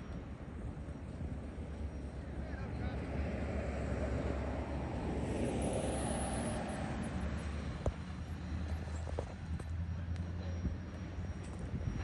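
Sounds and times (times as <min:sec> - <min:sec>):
road vehicle passing: 0:00.2 - 0:12.0.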